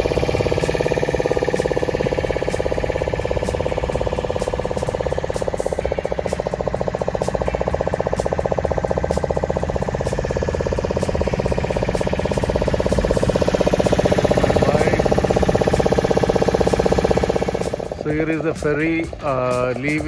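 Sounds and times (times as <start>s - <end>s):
ferry engine pulsing: 0.0s - 20.0s.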